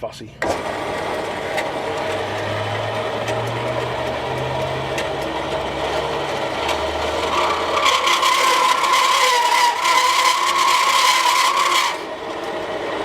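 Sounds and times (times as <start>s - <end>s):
band saw motor hum and blade whir: 0.5s - 13.0s.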